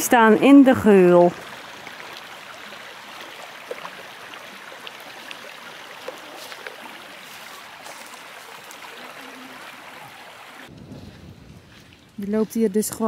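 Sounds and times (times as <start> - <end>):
shallow river water trickling: 0.0 - 13.0.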